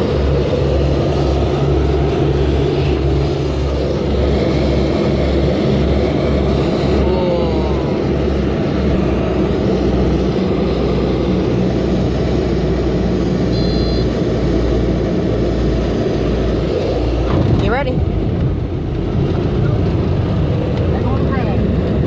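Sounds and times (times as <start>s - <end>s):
jet cabin engine and air rush: 0.0s - 22.0s.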